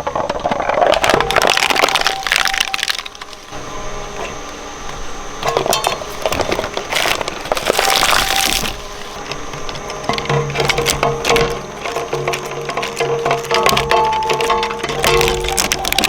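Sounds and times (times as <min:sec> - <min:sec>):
machine hum: 0:00.0 - 0:16.0
shredder crunching: 0:00.0 - 0:16.0.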